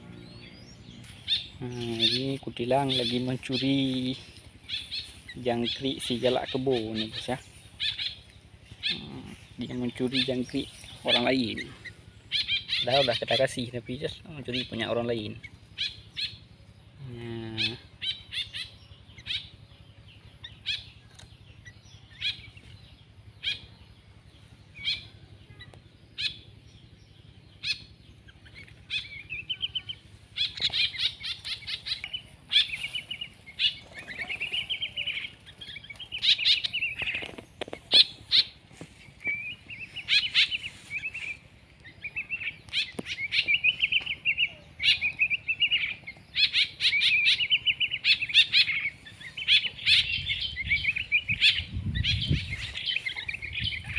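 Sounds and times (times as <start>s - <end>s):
birds chattering trills: 0.0s - 53.9s
small birds chirping: 0.0s - 53.9s.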